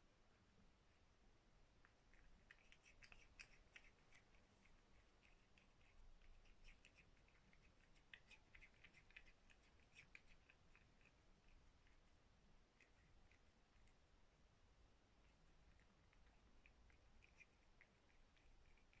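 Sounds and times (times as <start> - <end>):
cat chewing with wet clicks: 1.8 - 14.4, 15.1 - 19.0.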